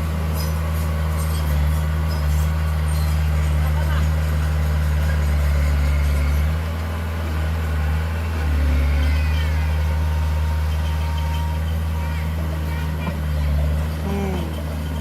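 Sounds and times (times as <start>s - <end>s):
heavy diesel engine humming: 0.0s - 15.0s.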